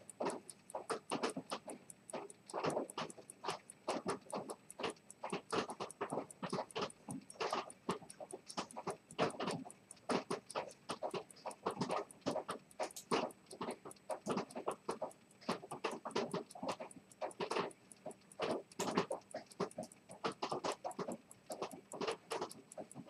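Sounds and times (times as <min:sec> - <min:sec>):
irregular clicks and scratchy knocks: 0:00.0 - 0:23.0
pocket watch ticking rapidly: 0:00.0 - 0:23.0.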